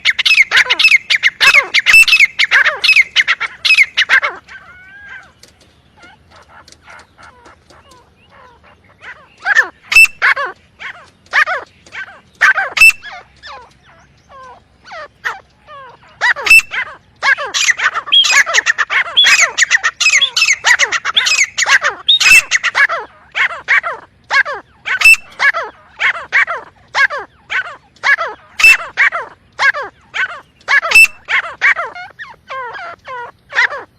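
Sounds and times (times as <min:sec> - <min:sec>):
francolin calling: 0:00.0 - 0:33.9.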